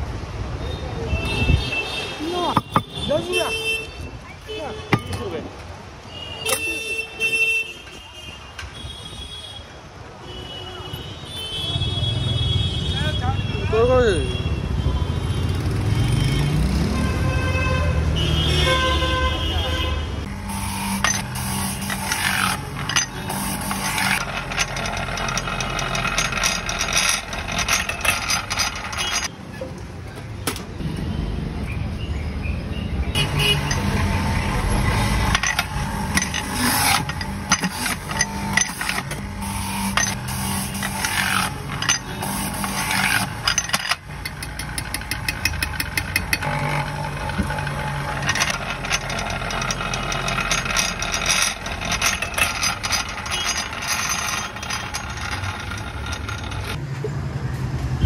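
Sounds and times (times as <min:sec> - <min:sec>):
street traffic: 0:00.0 - 0:58.0.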